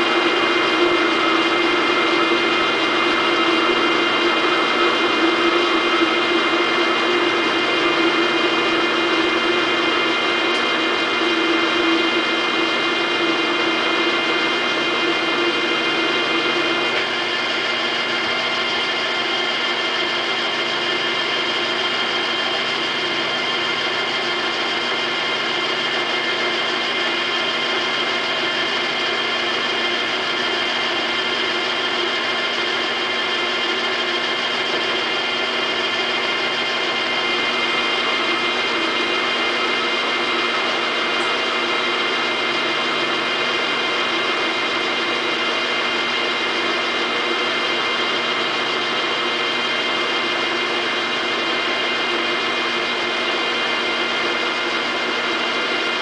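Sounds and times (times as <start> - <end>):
lathe motor hum: 0.0 - 56.0.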